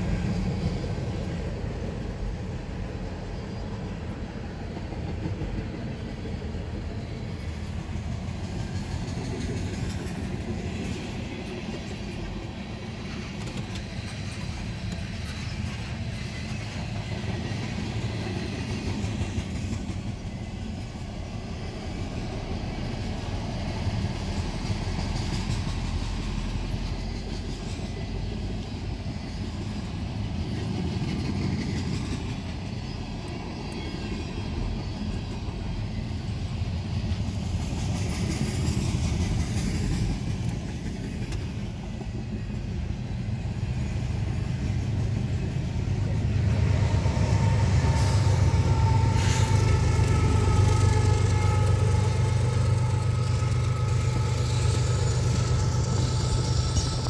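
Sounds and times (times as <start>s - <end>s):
locomotive whine: 0.0s - 57.0s
train wheels rumbling on rails: 0.0s - 57.0s.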